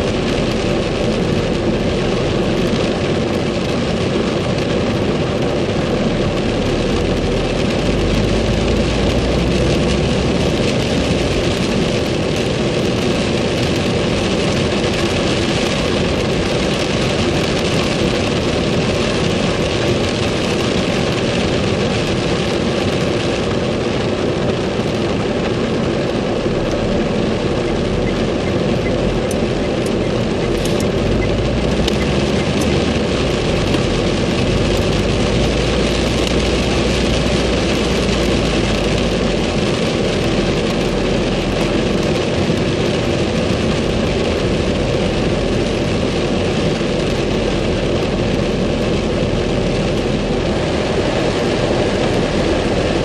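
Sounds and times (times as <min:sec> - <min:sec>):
car engine and road noise: 0:00.0 - 0:53.0
deep low rumble: 0:00.0 - 0:53.0
heavy rain on car roof: 0:00.0 - 0:53.0.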